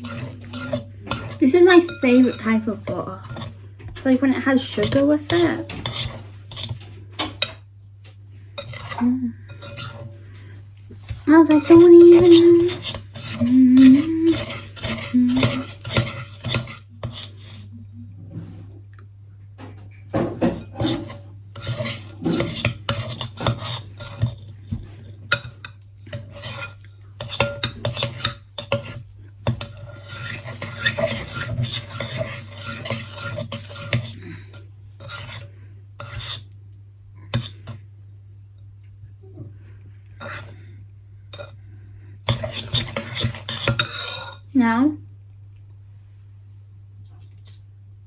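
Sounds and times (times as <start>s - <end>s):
spoon scraping mixing bowl: 0.0s - 19.1s, 19.9s - 36.6s, 37.2s - 37.9s, 39.5s - 44.5s
steady low hum: 0.0s - 47.0s.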